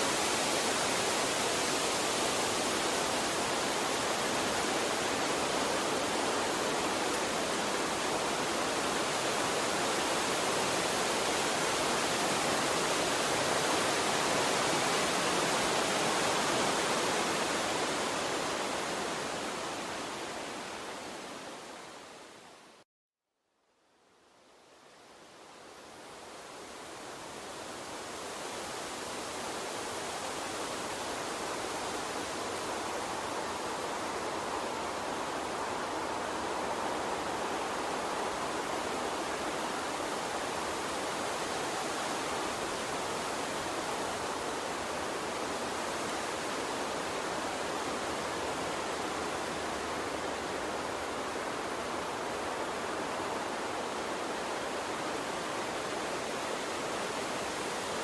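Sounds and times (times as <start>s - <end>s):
water stream rushing: 0.0s - 22.8s, 25.3s - 58.0s.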